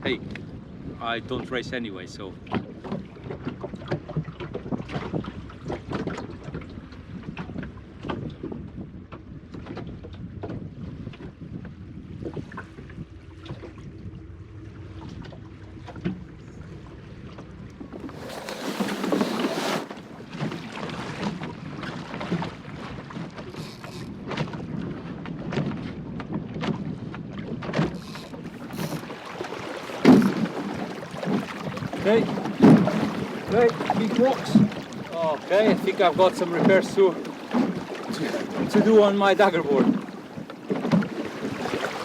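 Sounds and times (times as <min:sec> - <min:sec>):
wind rumbling on microphone: 0:00.0 - 0:42.0.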